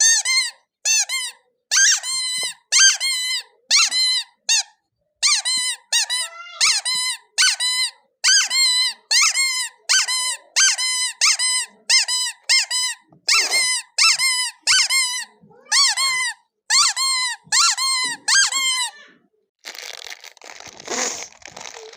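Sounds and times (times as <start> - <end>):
rubber squeeze toy squeaking: 0.0 - 21.9.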